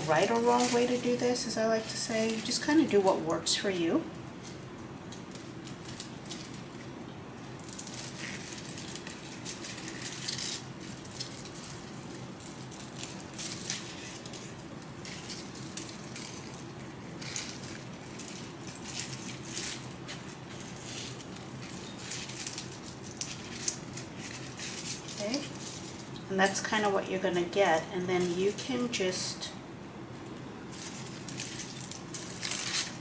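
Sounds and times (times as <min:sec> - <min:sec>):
leaves rustling and crackling: 0:00.0 - 0:33.0
low steady hum: 0:00.0 - 0:33.0.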